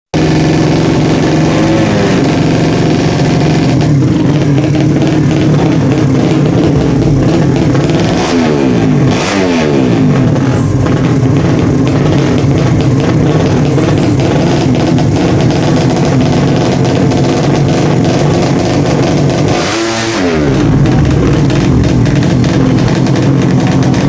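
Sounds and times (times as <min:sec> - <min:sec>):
racing motorcycle engine revving: 0:00.2 - 0:24.0.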